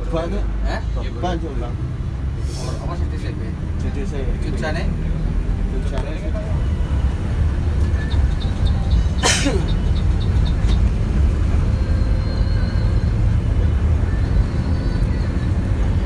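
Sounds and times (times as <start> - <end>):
coach engine and tyres rumbling: 0.0 - 16.0.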